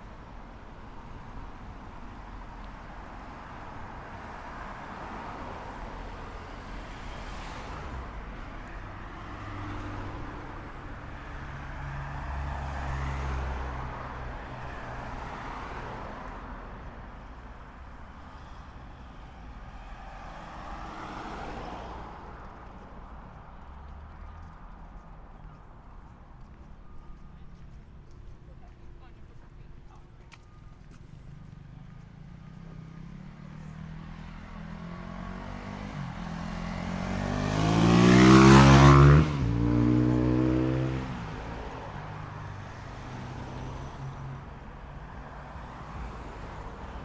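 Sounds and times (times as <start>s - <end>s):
cars driving past: 2.9s - 28.4s, 30.5s - 47.0s.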